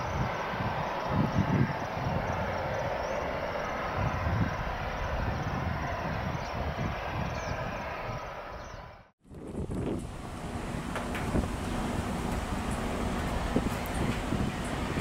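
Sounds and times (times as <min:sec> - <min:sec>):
jet engine roar: 0:00.0 - 0:08.6, 0:09.6 - 0:15.0.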